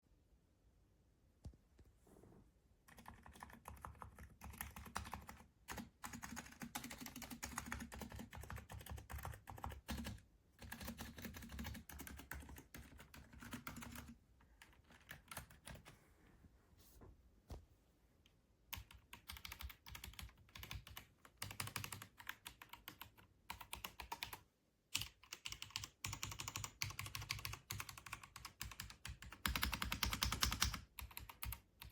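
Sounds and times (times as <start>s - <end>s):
mechanical keyboard typing: 2.9s - 15.9s, 18.7s - 31.9s.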